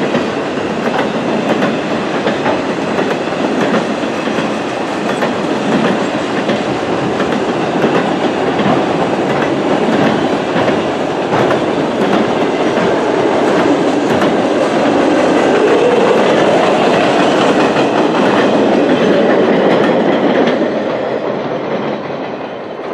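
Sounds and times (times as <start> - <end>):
freight train rolling rumble: 0.0 - 22.9
wheels clicking over rail joints: 0.0 - 22.9.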